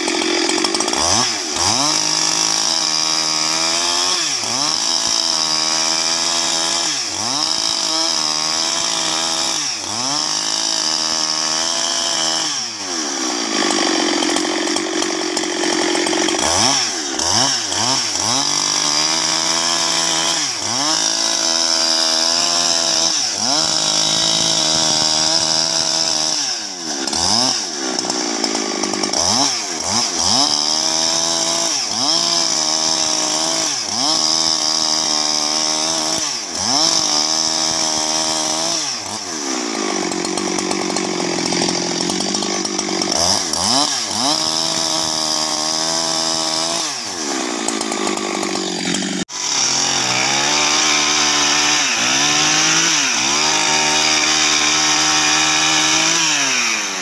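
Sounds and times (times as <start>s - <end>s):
chainsaw cutting through log: 0.0s - 57.0s.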